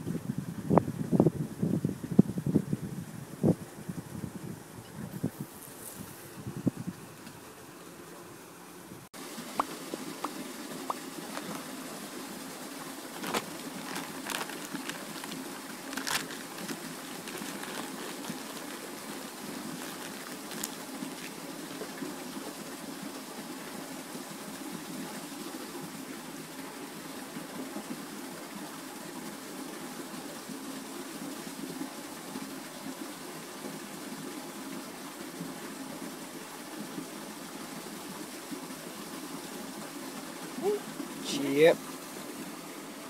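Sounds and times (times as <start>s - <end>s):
outdoor background hiss: 0.0s - 43.0s.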